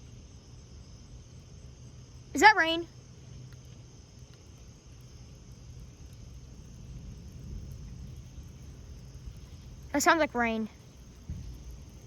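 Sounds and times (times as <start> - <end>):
light rain hissing: 0.0 - 12.0
low rumble of wind: 0.0 - 12.0.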